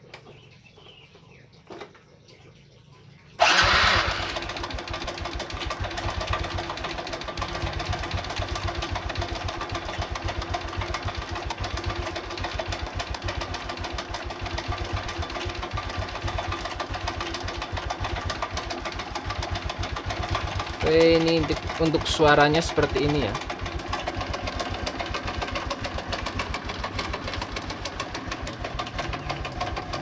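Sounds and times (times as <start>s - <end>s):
motorcycle engine starting and idling: 0.0s - 30.0s
engine rattle and tapping: 3.4s - 30.0s.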